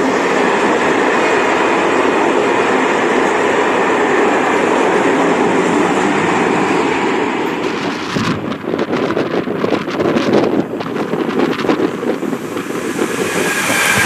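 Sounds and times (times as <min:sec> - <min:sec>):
freight train wheels rattling on rail: 0:00.0 - 0:14.0
wind buffeting microphone: 0:00.0 - 0:14.0.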